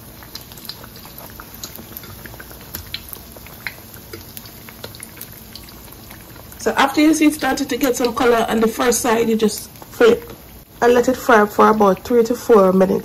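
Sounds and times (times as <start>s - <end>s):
batter deep-frying with pops: 0.0s - 13.0s.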